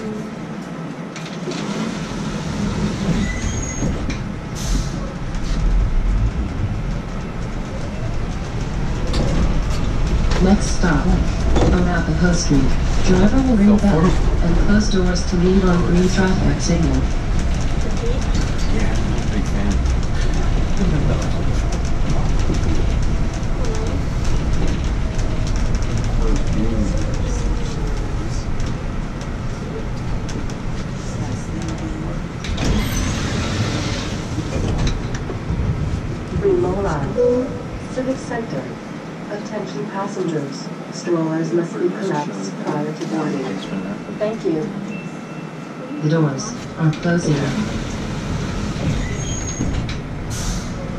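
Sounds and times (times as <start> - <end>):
large vehicle rumbling: 0.0 - 40.1, 42.1 - 50.9.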